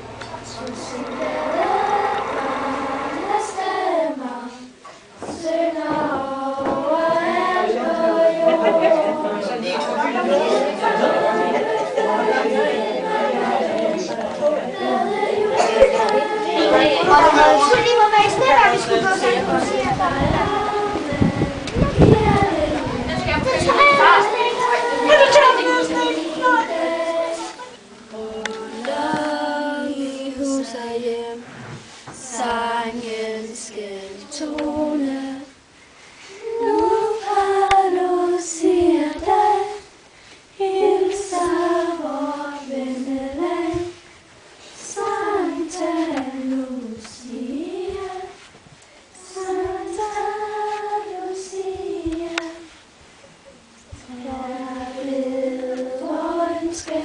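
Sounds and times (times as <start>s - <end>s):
children singing together: 0.0s - 57.0s.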